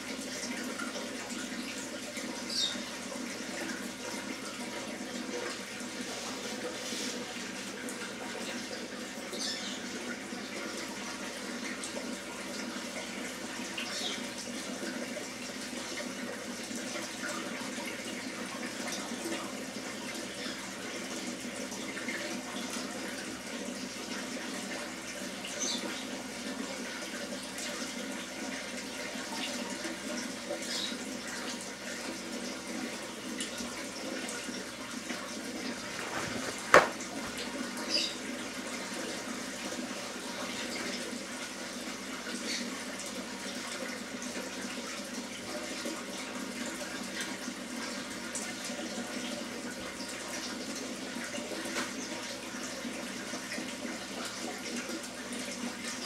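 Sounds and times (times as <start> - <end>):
water running: 0.0 - 56.0.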